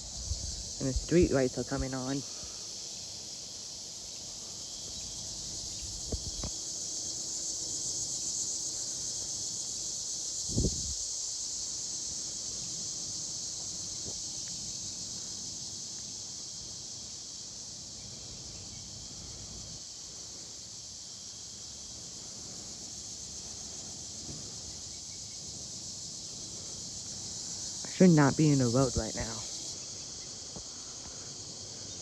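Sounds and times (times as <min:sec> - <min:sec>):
cicadas droning: 0:00.0 - 0:32.0.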